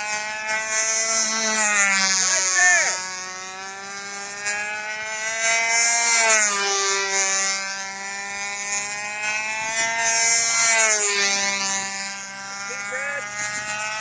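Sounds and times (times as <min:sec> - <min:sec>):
model plane engine buzzing: 0:00.0 - 0:14.0.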